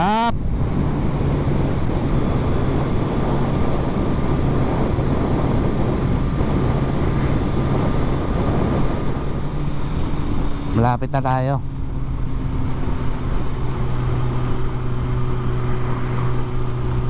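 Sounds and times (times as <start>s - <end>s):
wind rush: 0.0s - 17.0s.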